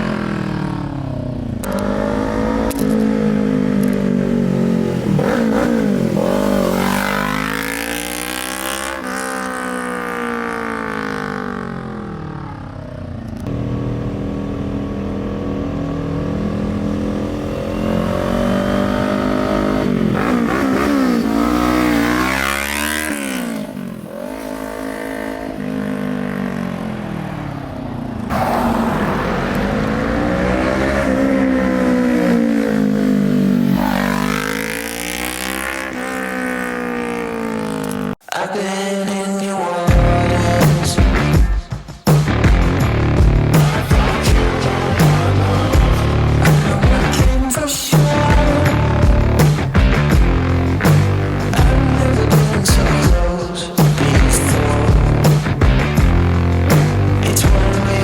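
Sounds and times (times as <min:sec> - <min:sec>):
motorcycle engine revving: 0:00.0 - 0:38.2, 0:39.9 - 0:58.0.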